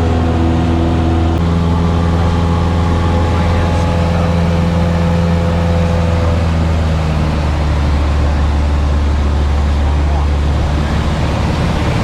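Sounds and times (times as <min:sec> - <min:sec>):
airplane engine and propeller droning: 0:00.0 - 0:12.0.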